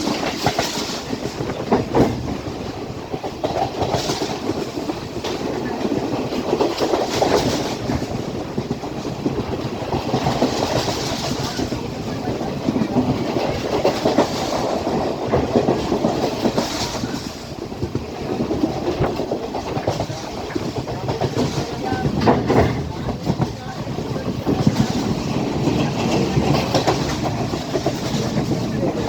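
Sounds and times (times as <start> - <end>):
train wheels rumbling on rails: 0.0 - 29.0
clicks over rail joints: 3.3 - 29.0.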